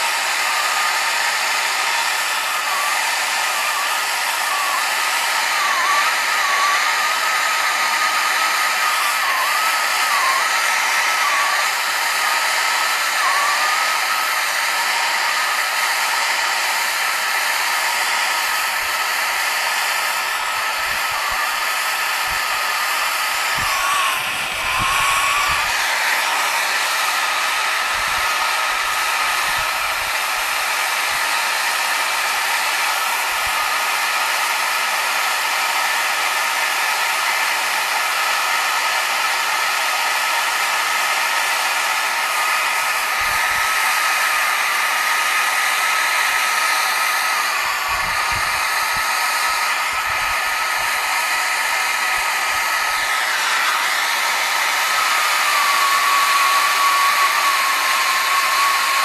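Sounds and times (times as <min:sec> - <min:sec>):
gas torch hissing: 0:00.0 - 0:59.0
whistling gas torch flame: 0:00.0 - 0:59.0.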